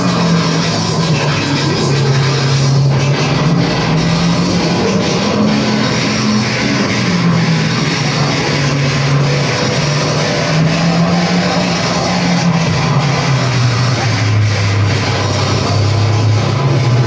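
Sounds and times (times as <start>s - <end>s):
distorted noise wall: 0.0s - 17.0s
low droning tone: 0.0s - 17.0s.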